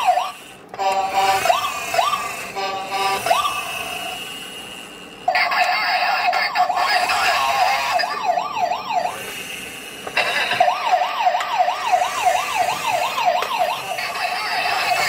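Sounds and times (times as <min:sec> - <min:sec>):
toy police siren wailing: 0:00.0 - 0:04.2, 0:05.2 - 0:09.3, 0:10.2 - 0:15.0.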